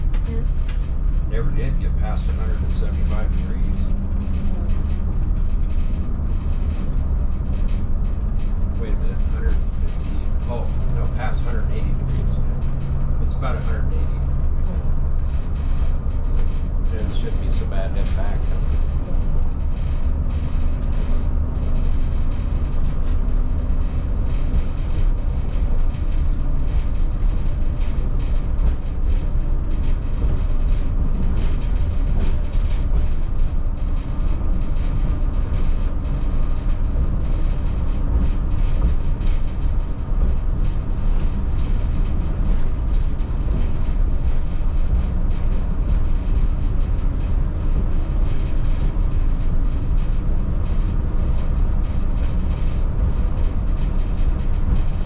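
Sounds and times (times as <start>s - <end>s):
coach engine and road rumble: 0.0s - 55.0s
faint clicks and rattles: 0.0s - 55.0s.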